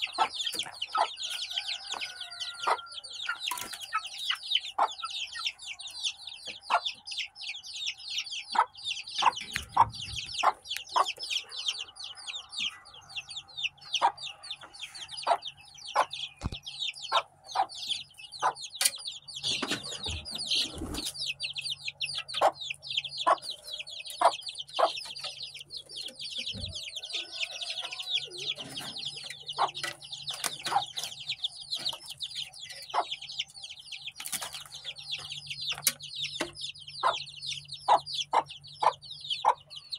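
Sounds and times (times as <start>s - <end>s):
chicken clucking: 0.0s - 39.9s
chicks peeping: 0.0s - 39.9s.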